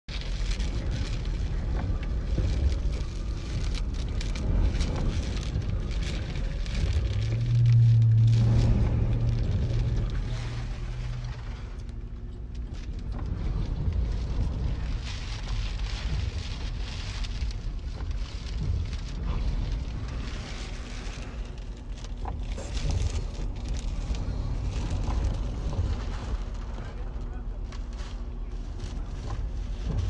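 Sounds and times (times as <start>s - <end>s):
low steady hum: 0.1s - 30.0s
rain spattering: 0.1s - 30.0s
wind buffeting a car: 0.1s - 30.0s.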